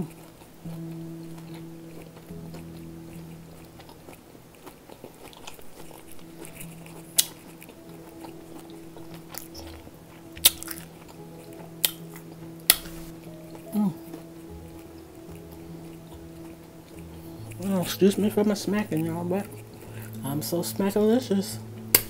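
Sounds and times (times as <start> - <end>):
person chewing with smacking: 0.0 - 20.5, 21.6 - 22.0
steady low hum: 0.0 - 22.0.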